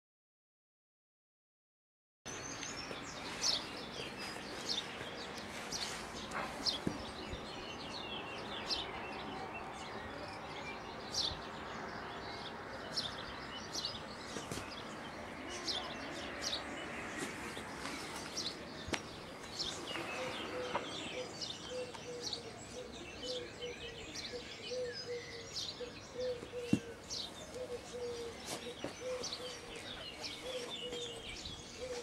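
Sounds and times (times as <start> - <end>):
small birds chirping: 2.3 - 32.0.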